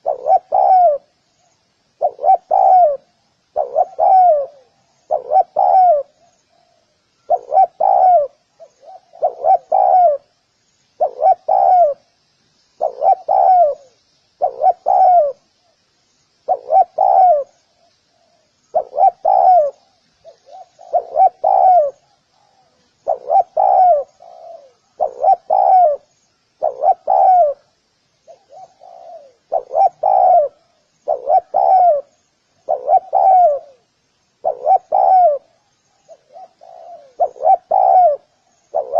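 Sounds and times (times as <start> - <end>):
dove cooing: 0.0 - 1.2, 2.0 - 10.3, 11.0 - 12.1, 12.8 - 15.4, 16.4 - 38.9.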